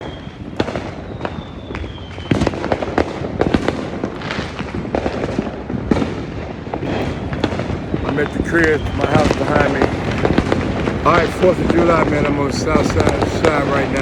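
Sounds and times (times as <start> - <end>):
high firework whistle: 0.0 - 4.7, 6.8 - 14.0
firecrackers bangs and crackles: 0.0 - 14.0.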